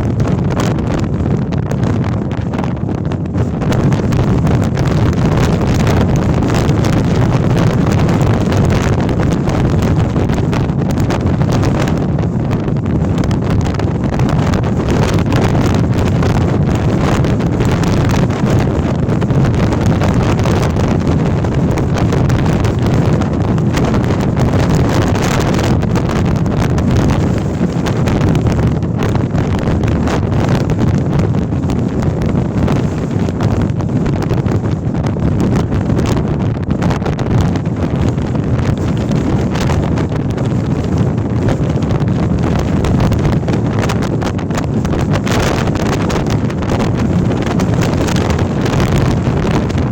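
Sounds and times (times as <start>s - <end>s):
strong wind buffeting microphone: 0.0s - 49.9s.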